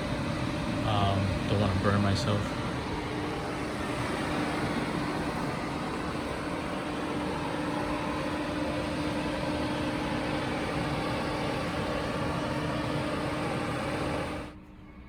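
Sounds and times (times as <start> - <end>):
cooling fan rushing air: 0.0 - 14.7.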